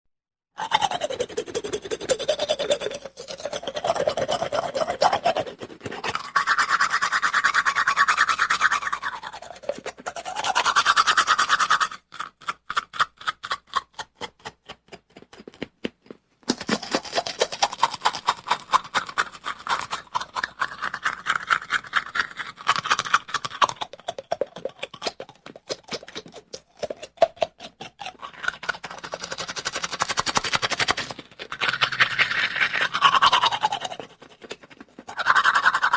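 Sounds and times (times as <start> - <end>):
toothbrush scrubbing teeth: 0.6 - 35.9.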